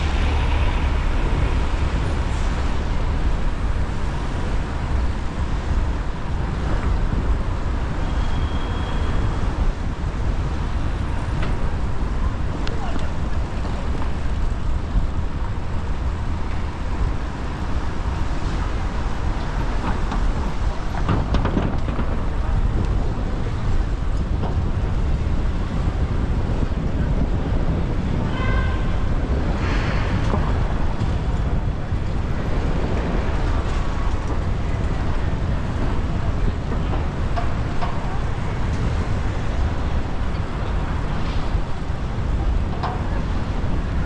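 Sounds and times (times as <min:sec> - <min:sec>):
passing vehicles: 0:00.0 - 0:44.0
wind rush on microphone: 0:00.0 - 0:44.0.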